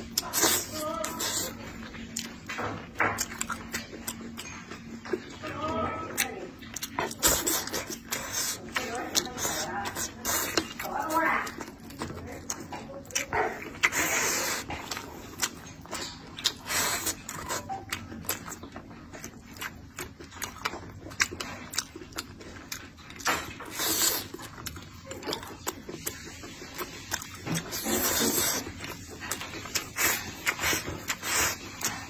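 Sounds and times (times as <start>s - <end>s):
wet chewing and lip-smacking: 0.0s - 32.0s.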